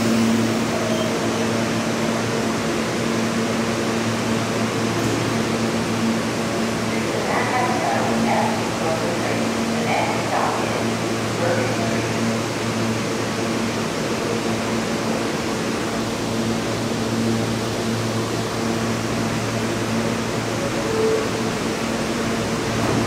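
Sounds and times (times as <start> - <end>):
train air-conditioning hum and hiss: 0.0 - 23.0.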